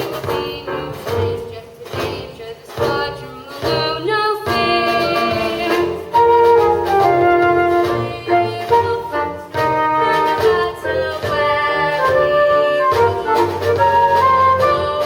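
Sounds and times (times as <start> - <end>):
musical theatre music: 0.0 - 15.0.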